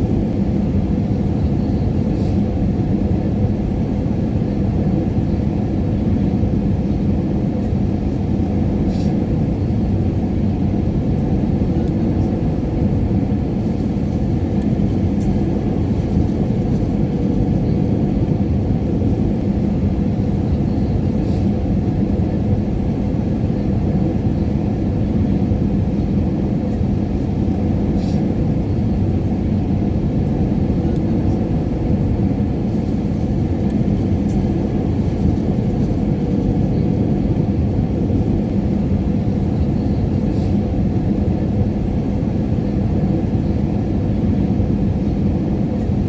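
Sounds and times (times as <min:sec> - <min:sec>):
airliner engines rumbling: 0:00.0 - 0:46.0.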